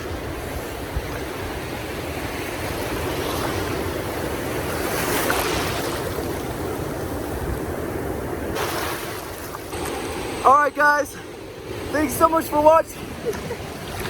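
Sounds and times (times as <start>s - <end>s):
ocean surf washing in: 0.0s - 14.0s
wind rumbling on microphone: 0.0s - 14.0s.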